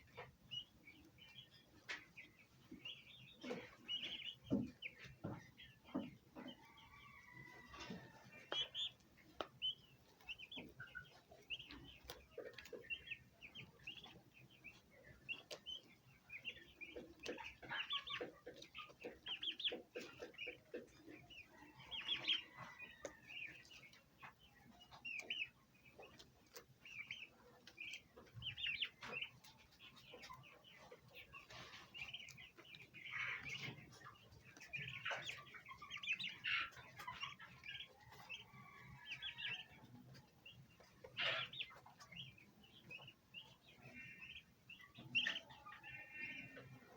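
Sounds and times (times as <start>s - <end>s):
turkey hen clucking: 0.0s - 46.9s
turkey poults peeping: 0.0s - 46.9s.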